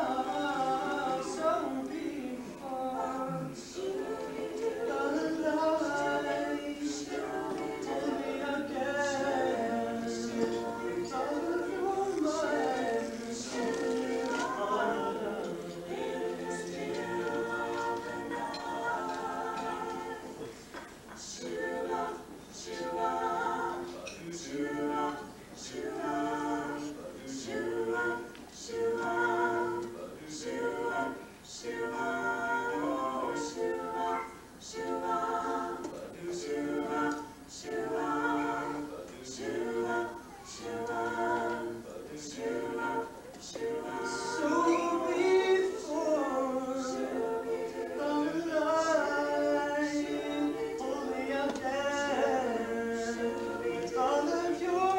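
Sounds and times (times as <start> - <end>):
group singing a cappella: 0.0 - 54.9.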